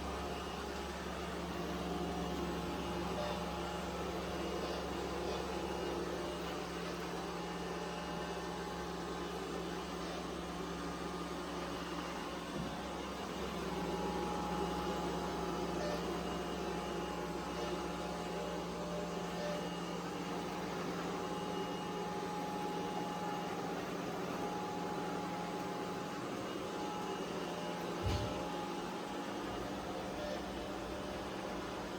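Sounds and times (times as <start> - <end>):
robot vacuum motor hum and whine: 0.0 - 31.9.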